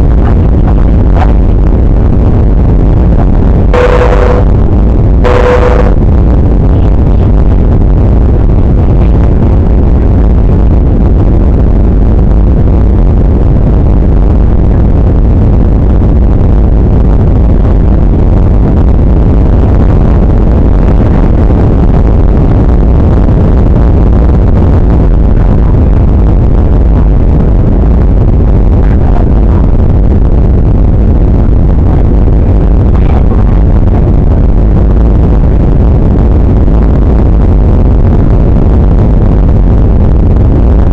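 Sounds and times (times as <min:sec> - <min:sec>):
airplane cabin jet engine rumble: 0:00.0 - 0:40.9.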